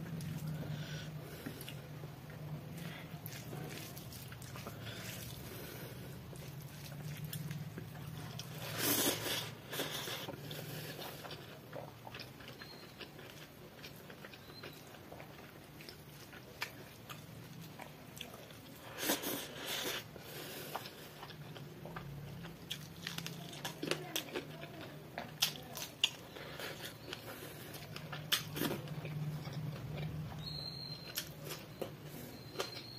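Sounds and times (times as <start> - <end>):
low steady hum: 0.0 - 32.9
chewing mouth sounds: 2.7 - 32.9.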